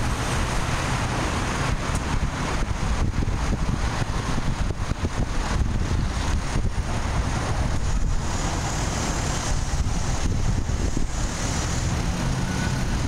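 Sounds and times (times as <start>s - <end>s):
traffic and machinery rumble: 0.0s - 13.0s
wind buffeting microphone: 0.0s - 13.0s.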